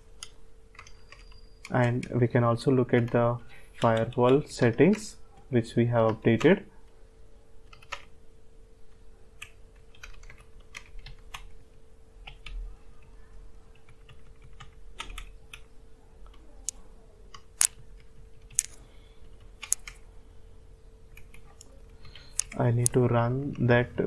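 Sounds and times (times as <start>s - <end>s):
computer keyboard typing: 0.1s - 7.0s, 7.6s - 8.2s, 8.9s - 20.1s, 21.1s - 23.7s.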